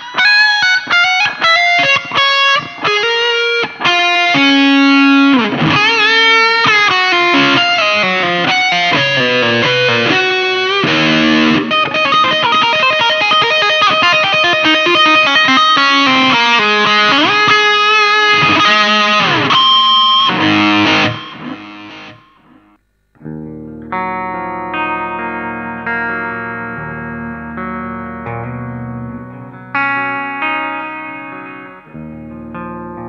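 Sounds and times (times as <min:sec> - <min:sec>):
electric guitar held ringing notes: 0:00.0 - 0:33.0
electric guitar lead line: 0:00.0 - 0:33.0.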